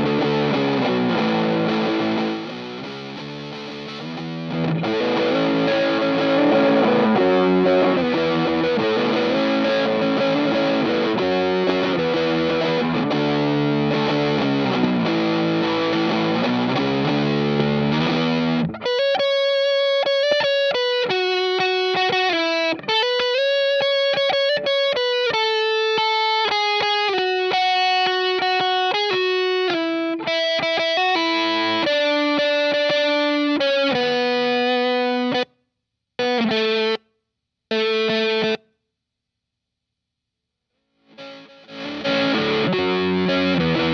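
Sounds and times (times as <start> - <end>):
distorted electric guitar: 0.0 - 35.5, 36.2 - 37.0, 37.7 - 38.6, 41.0 - 43.9.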